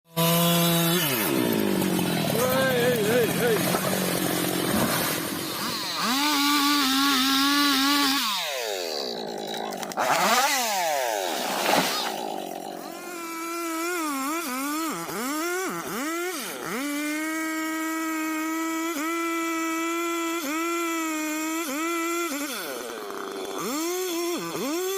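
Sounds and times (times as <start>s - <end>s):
chainsaw revving: 0.1s - 24.9s.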